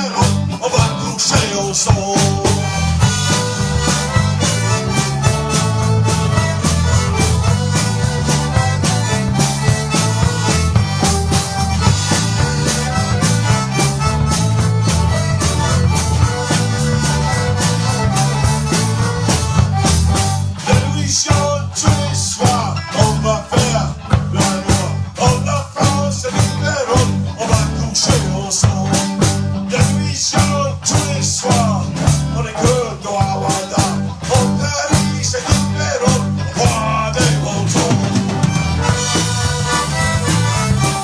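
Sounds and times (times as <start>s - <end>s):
accordion: 0.0s - 41.0s
drums: 0.0s - 41.0s
electric bass: 0.0s - 41.0s
electric guitar: 0.0s - 41.0s.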